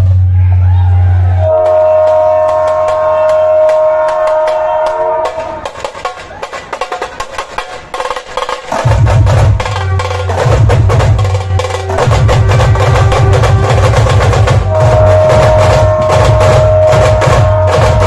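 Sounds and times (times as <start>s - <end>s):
deep dhol drum beats: 0.0s - 18.0s
tasha drums rapid sharp strokes: 1.7s - 18.0s.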